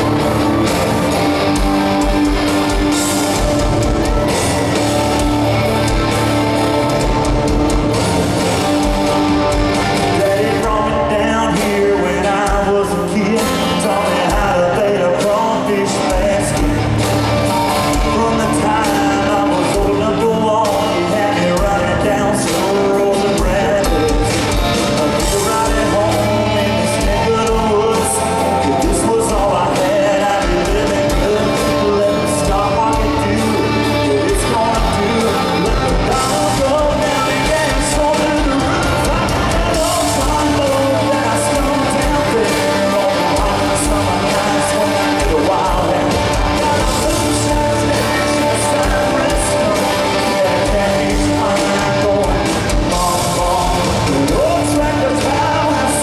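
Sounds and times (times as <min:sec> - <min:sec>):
live country rock band: 0:00.0 - 0:56.0
man singing: 0:00.0 - 0:56.0.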